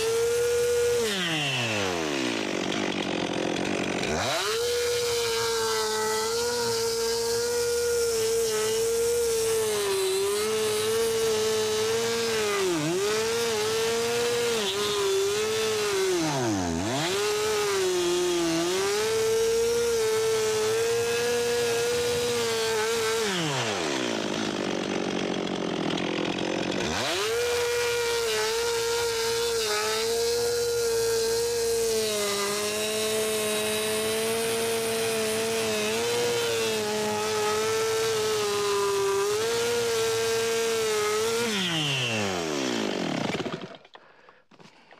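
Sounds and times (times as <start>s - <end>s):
chainsaw sawing wood: 0.0s - 44.9s.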